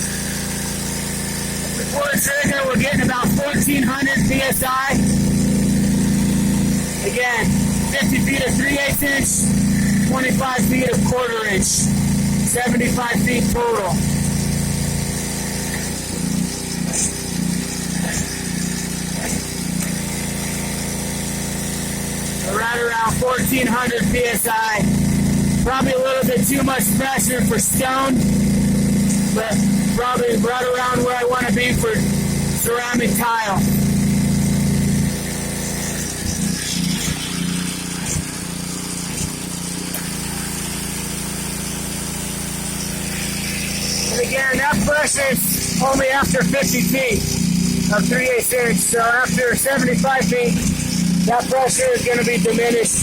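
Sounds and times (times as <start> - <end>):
pressure washer engine running: 0.0 - 53.0.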